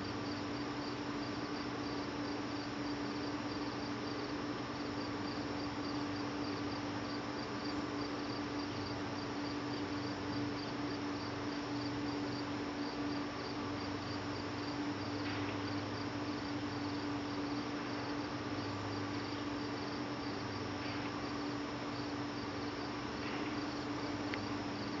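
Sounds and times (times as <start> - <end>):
constant hiss: 0.0 - 25.0
insects chirping: 0.0 - 25.0
low steady hum: 0.0 - 25.0.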